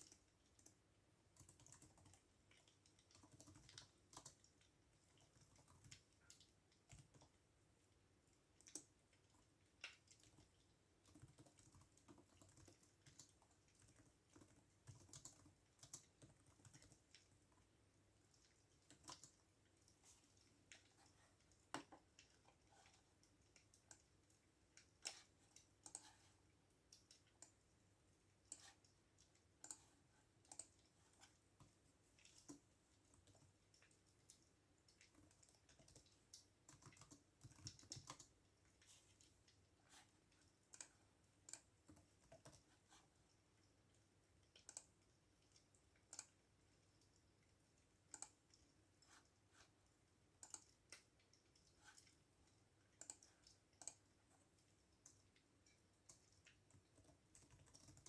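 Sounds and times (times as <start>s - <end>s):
faint keyboard typing: 0.0s - 58.0s.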